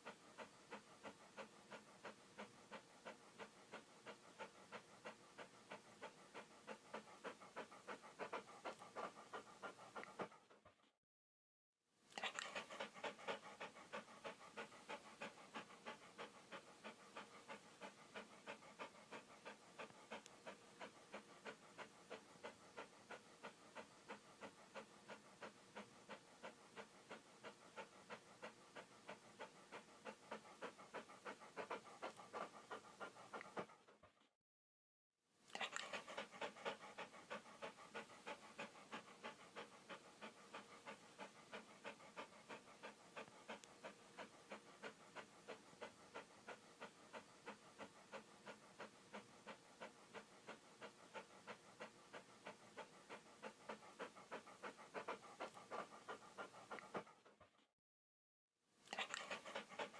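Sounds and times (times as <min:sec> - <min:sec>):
dog panting: 0:00.0 - 0:11.0, 0:12.1 - 0:34.3, 0:35.5 - 0:57.7, 0:58.9 - 0:59.9.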